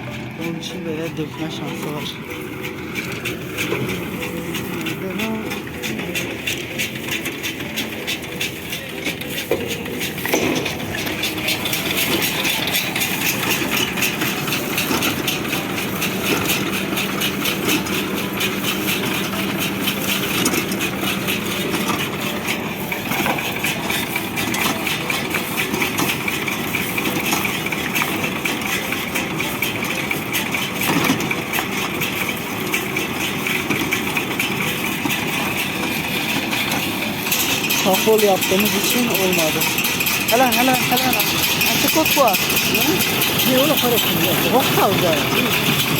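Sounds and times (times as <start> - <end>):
hay baler clattering: 0.0 - 45.9
tractor engine running: 0.0 - 45.9.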